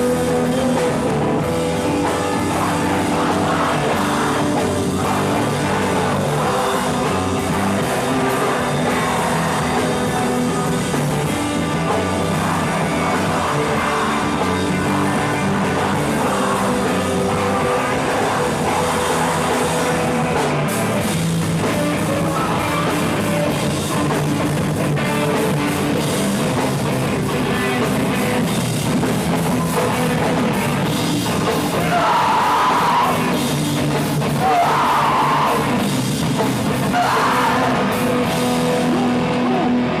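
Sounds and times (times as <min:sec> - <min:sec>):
drum kit: 0:00.0 - 0:40.0
live rock band playing: 0:00.0 - 0:40.0.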